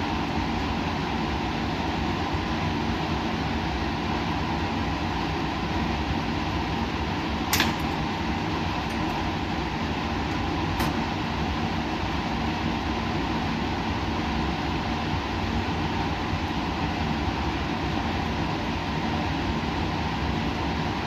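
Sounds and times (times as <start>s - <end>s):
equipment humming with airflow: 0.0s - 21.0s.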